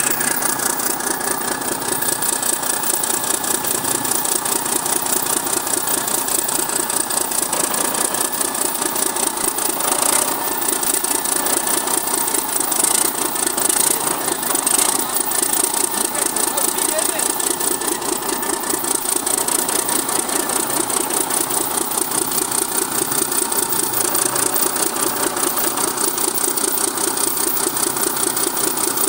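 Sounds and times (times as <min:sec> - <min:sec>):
diesel engine idling: 0:00.0 - 0:07.5, 0:08.2 - 0:26.2.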